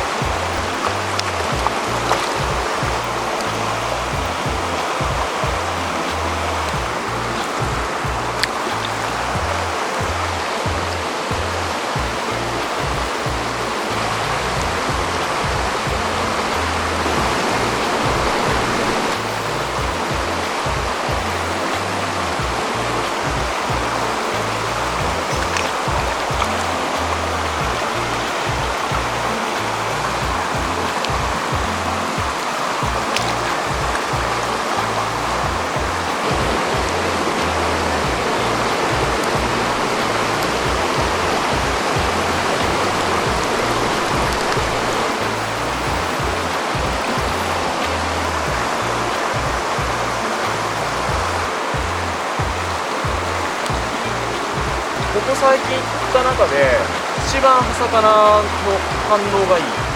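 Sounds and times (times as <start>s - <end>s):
background music with bass: 0.0s - 59.9s
stream water rushing: 0.0s - 59.9s.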